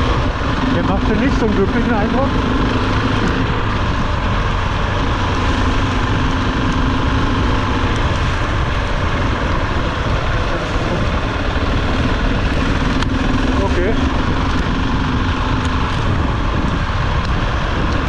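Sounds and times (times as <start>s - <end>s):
motorcycle engine running: 0.0s - 18.0s
rain noise: 0.0s - 18.0s
wind rushing: 0.0s - 18.0s.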